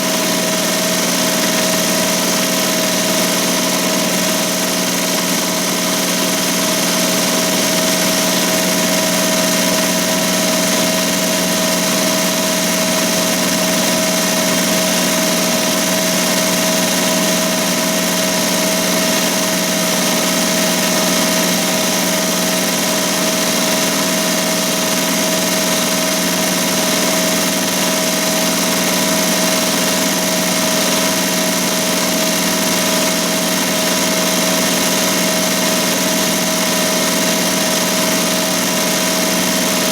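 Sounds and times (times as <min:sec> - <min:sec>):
embroidery machine running: 0:00.0 - 0:39.9.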